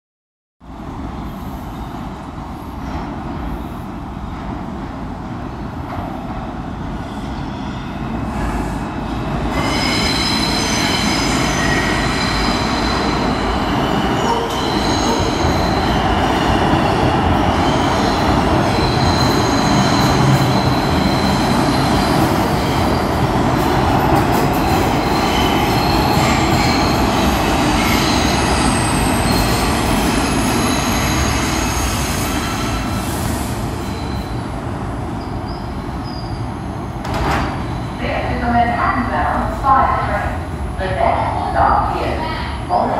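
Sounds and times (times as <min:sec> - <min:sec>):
subway train rumble: 0:00.6 - 0:42.9.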